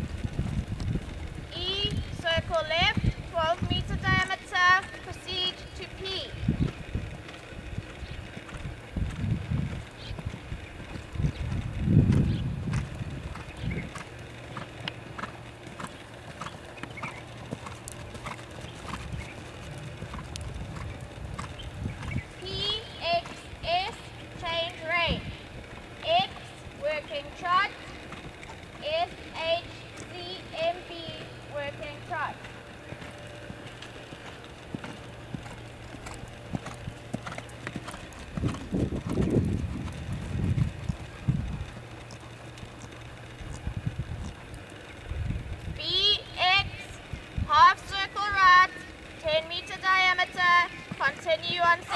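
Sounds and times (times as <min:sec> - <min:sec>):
horse hoofbeats on sand: 0:00.0 - 0:47.5, 0:49.3 - 0:51.9
low steady hum: 0:00.0 - 0:51.9.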